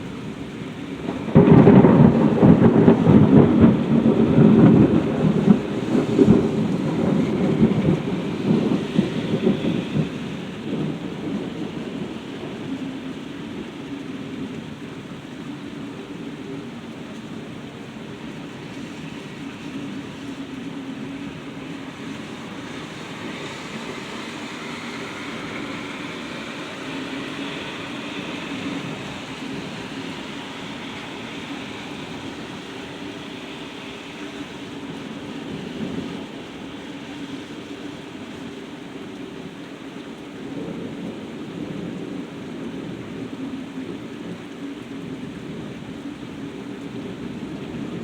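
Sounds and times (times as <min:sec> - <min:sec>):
thunder rumbling: 0:00.0 - 0:39.6
heavy rain: 0:00.0 - 0:48.0.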